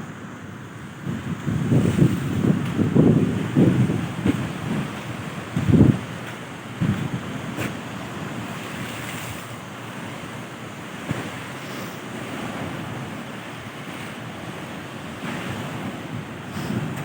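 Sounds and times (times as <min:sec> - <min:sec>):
waves washing onto beach: 0:00.0 - 0:17.0
wind on microphone: 0:00.8 - 0:17.0.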